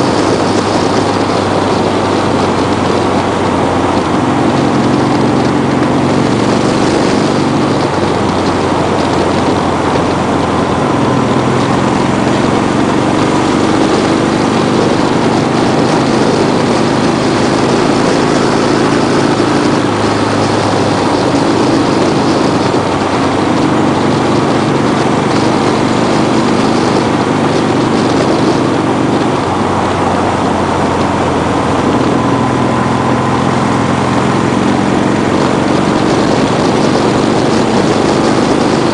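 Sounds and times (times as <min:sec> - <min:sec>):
vehicle engine running: 0:00.0 - 0:38.9
wind and road noise: 0:00.0 - 0:38.9.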